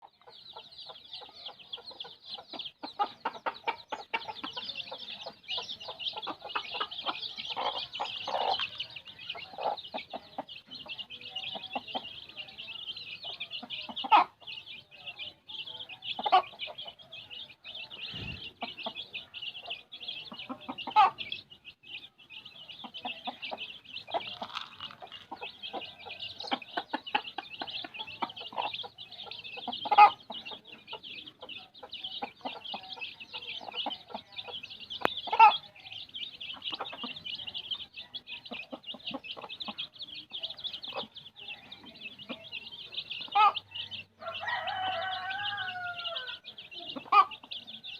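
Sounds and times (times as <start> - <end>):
chicken clucking: 0.0 - 47.9
chicks peeping: 0.0 - 47.9.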